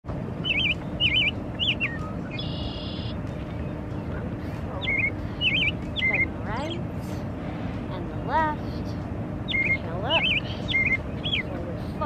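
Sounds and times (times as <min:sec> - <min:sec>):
steady low background noise: 0:00.0 - 0:12.0
songbirds singing: 0:00.1 - 0:12.0.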